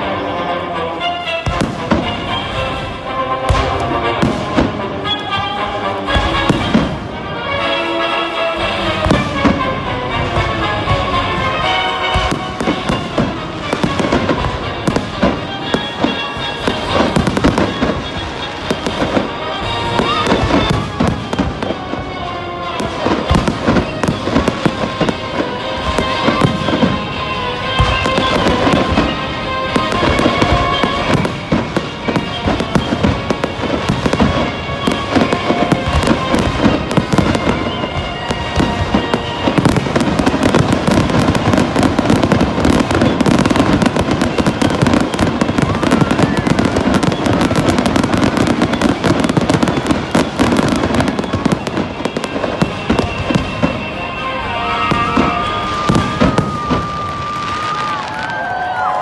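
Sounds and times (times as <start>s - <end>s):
firecracker-like crackling: 0.0s - 59.0s.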